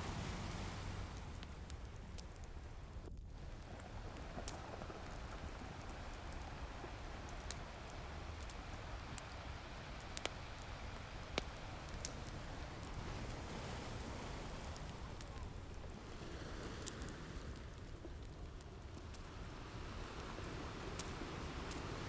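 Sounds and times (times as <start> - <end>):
ocean surf: 0.0 - 1.5, 3.4 - 18.3, 19.0 - 22.0
wood fire crackling and popping: 0.0 - 22.0.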